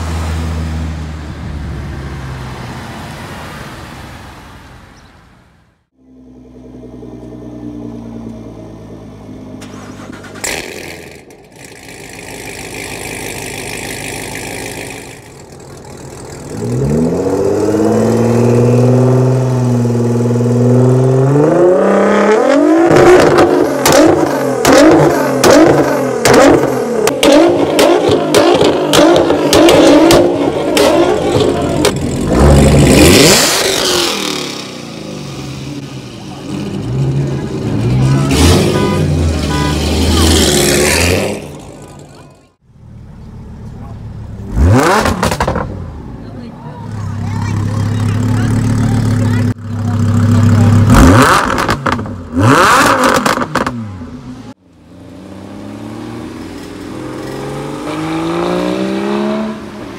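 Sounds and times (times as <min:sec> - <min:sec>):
sports car engine revving: 0:06.1 - 0:42.2, 0:42.8 - 0:46.1, 0:47.0 - 0:59.9.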